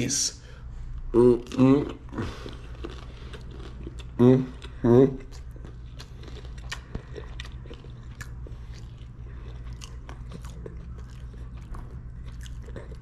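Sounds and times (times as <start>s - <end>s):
low hum: 0.0s - 13.0s
crisp cracker crunching: 2.3s - 13.0s.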